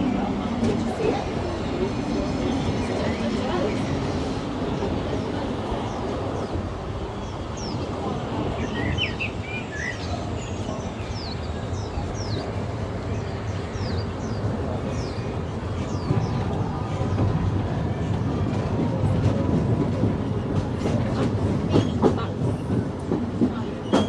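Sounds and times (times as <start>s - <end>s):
birds chirping: 0.0s - 22.2s
train car rumbling on track: 0.0s - 24.0s.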